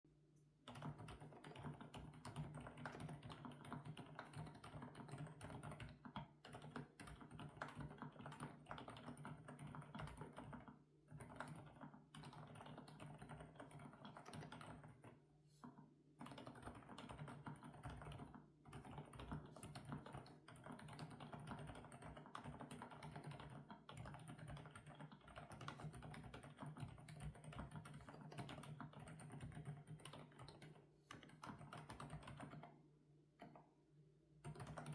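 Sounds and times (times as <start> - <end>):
mechanical keyboard typing: 0.7 - 15.2, 16.2 - 32.7, 34.4 - 34.9.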